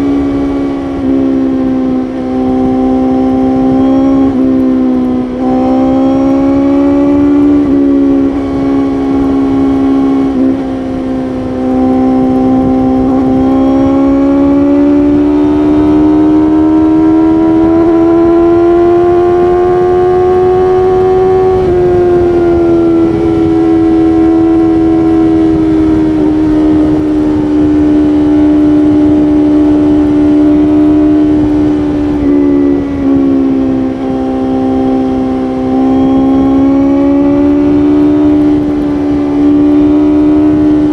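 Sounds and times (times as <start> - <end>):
motorcycle engine at high revs: 0.0 - 40.9
wind noise: 0.0 - 40.9.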